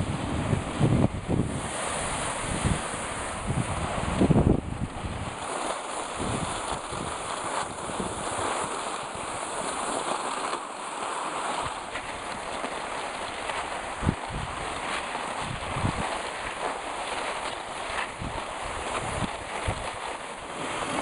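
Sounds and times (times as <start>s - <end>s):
wind on microphone: 0.0s - 10.1s, 11.4s - 21.0s.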